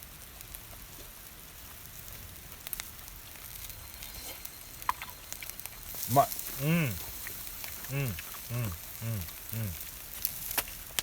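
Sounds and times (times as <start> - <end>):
fat crackling on coals: 0.0 - 11.0
meat sizzling on grill: 0.0 - 11.0.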